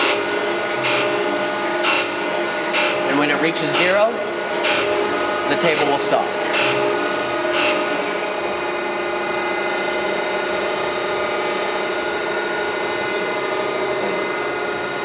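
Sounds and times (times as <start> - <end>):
surface grinder humming and whining: 0.0 - 15.0.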